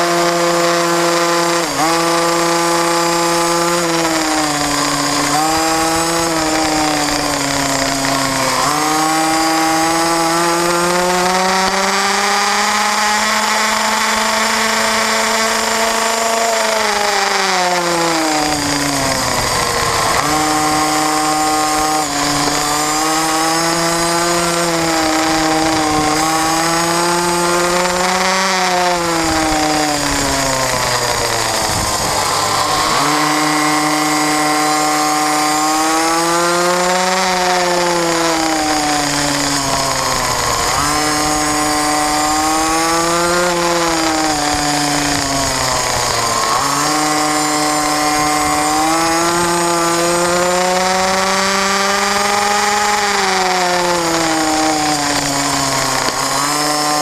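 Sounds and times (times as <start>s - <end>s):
minibike engine revving: 0.0s - 57.0s
wind and road noise: 0.0s - 57.0s.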